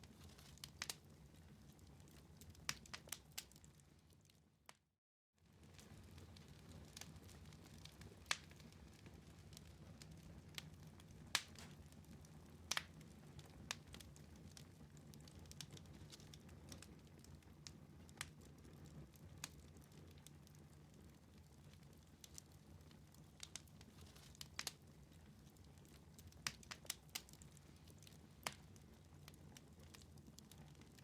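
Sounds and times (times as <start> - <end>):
wood fire crackling: 0.0 - 4.8, 5.4 - 31.0.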